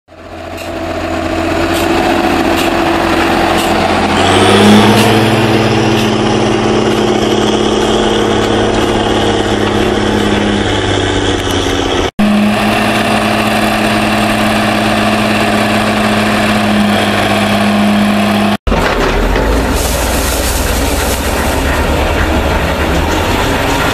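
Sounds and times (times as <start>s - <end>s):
tractor diesel engine running: 0.1s - 23.9s.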